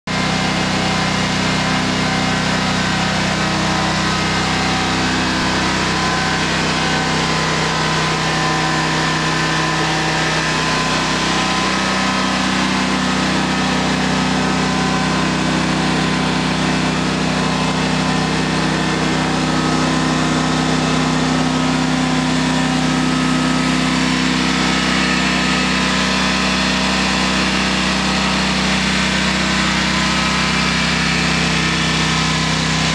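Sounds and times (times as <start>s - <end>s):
mower engine running steadily: 0.1s - 32.9s.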